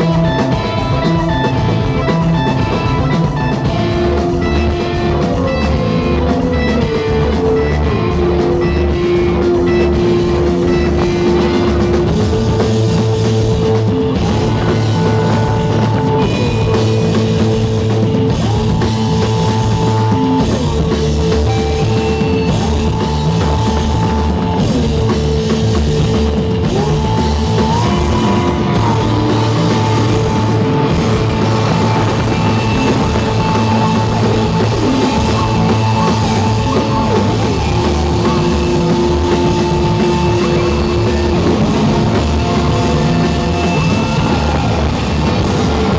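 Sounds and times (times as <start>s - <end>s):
drum kit: 0.0s - 45.9s
electric guitar sliding notes: 0.0s - 45.9s.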